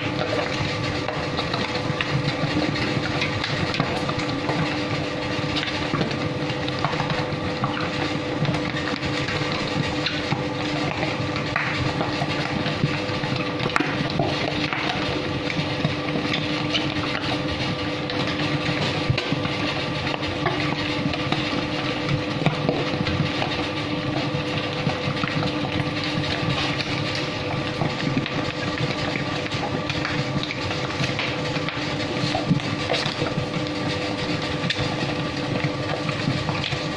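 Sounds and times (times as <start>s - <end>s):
electric dough mixer running: 0.0s - 36.9s.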